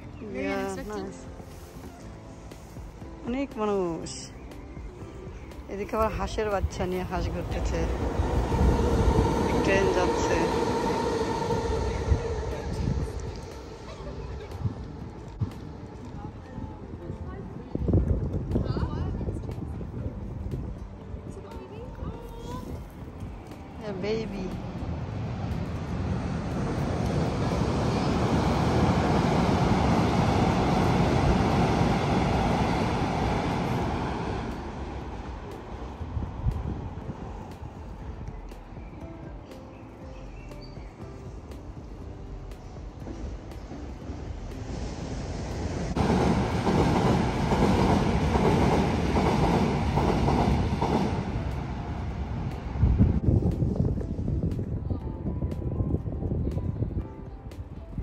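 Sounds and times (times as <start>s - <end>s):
train rumbling over bridge: 0.0s - 58.0s.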